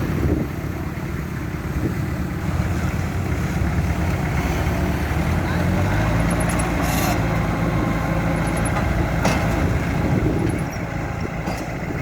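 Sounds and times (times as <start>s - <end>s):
bulldozer diesel engine rumbling: 0.0s - 12.0s.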